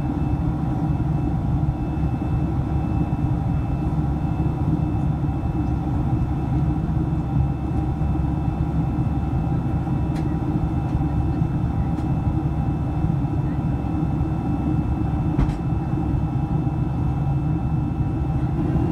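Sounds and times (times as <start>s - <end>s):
jet engine rumble in cabin: 0.0s - 18.9s.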